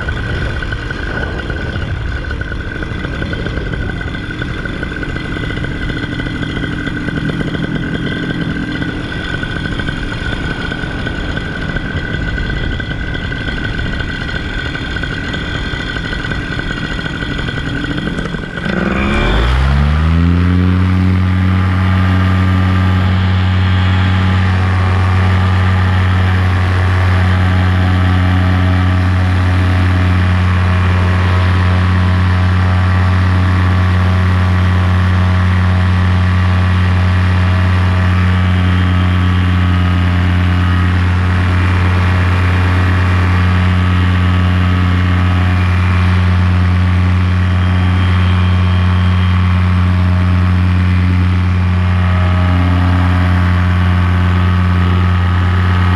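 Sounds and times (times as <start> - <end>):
two-stroke engine droning: 0.0 - 55.9.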